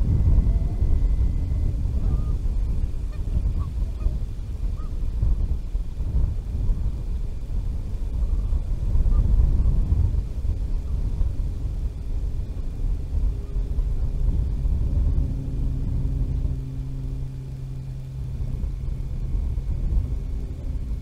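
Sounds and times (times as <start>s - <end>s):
steady low hum: 0.0s - 21.0s
wind buffeting microphone: 0.0s - 21.0s.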